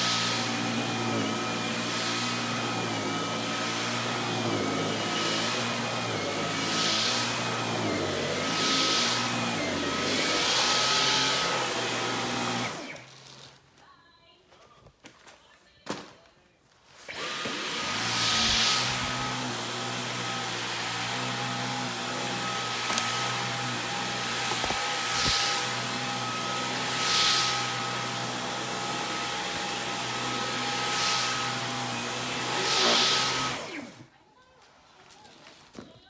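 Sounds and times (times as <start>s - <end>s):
vacuum suction hiss on carpet: 0.0s - 12.7s, 17.4s - 33.7s
cordless vacuum whine: 0.0s - 13.6s, 17.1s - 34.1s.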